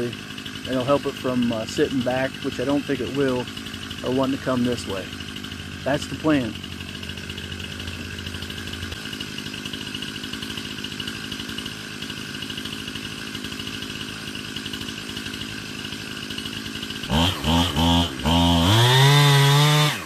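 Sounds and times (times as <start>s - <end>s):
chainsaw idling and revving: 0.0s - 20.0s.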